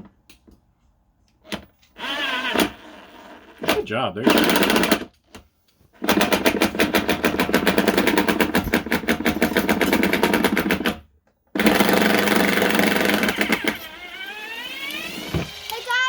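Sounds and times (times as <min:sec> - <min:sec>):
power drill clattering: 0:01.5 - 0:05.4, 0:06.0 - 0:11.0, 0:11.6 - 0:16.0.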